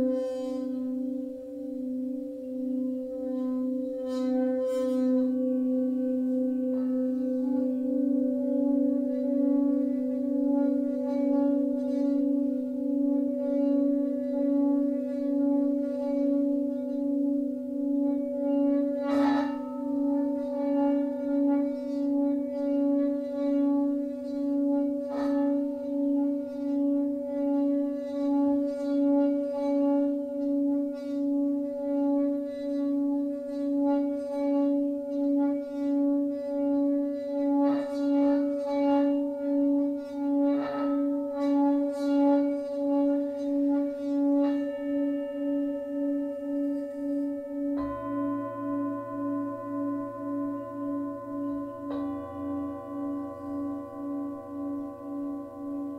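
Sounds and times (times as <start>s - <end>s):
higher-pitched singing bowl: 0.0s - 55.9s
singing bowl drone: 0.0s - 55.9s.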